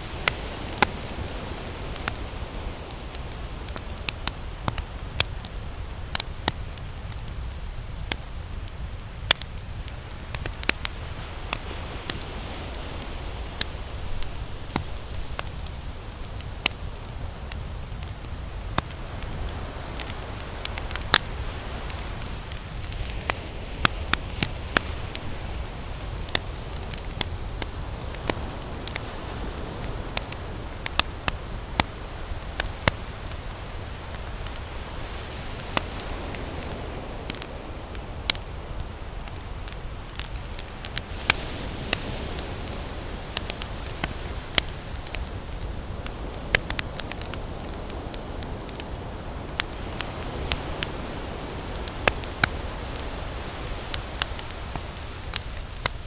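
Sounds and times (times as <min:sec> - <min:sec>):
beach surf: 0:00.0 - 0:56.0
campfire crackling and popping: 0:00.0 - 0:56.0.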